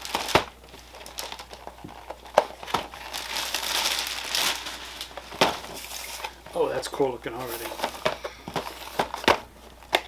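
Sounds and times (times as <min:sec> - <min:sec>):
packing material crinkling: 0:00.0 - 0:10.0.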